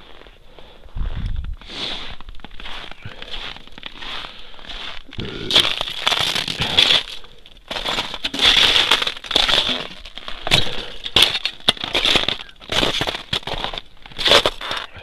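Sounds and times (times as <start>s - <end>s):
footsteps crunching through snow and ice: 0.0s - 15.0s.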